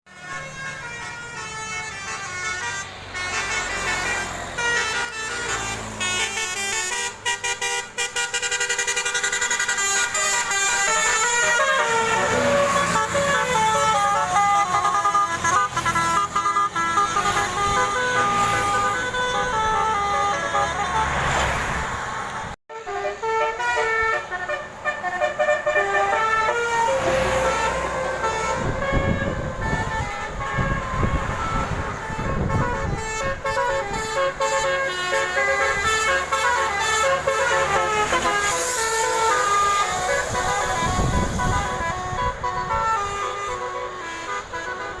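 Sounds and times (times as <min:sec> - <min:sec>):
buses passing: 0:00.1 - 0:45.0
multi-tone bus horns playing tune: 0:00.1 - 0:45.0.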